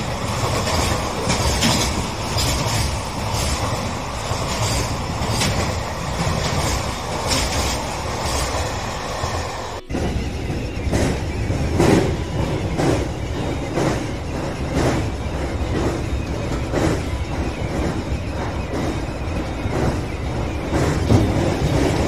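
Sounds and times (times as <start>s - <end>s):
train rumble: 0.0s - 22.0s
wheels clacking over rail joints: 0.0s - 22.0s.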